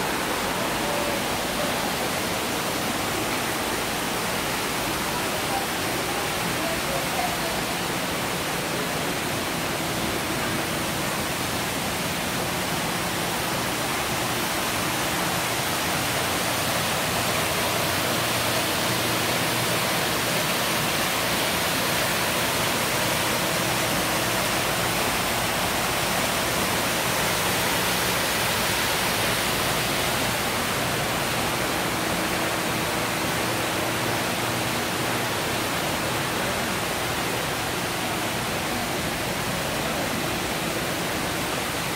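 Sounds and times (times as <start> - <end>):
rushing hiss of flowing water: 0.0 - 41.9.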